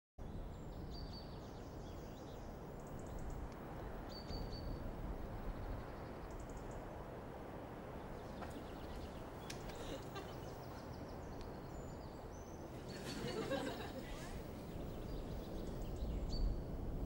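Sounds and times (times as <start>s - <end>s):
small birds chirping: 0.2s - 7.1s, 7.7s - 17.0s.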